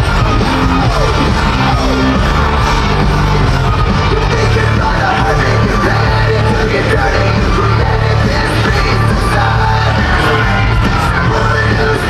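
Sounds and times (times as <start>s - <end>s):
loud rock music with singing: 0.0s - 12.0s.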